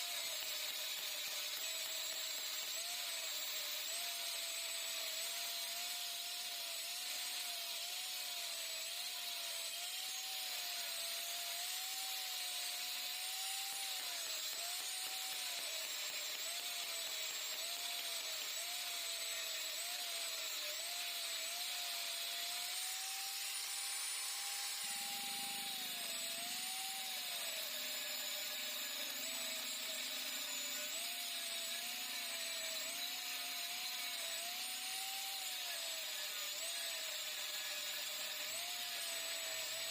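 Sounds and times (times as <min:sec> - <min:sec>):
power tool boring into metal: 0:00.0 - 0:39.9.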